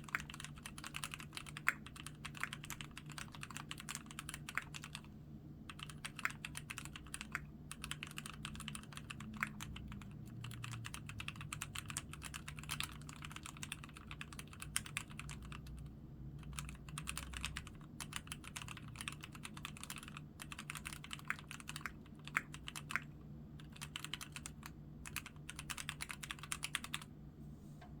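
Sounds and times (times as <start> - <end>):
mechanical keyboard typing: 0.0 - 5.1, 5.7 - 27.1.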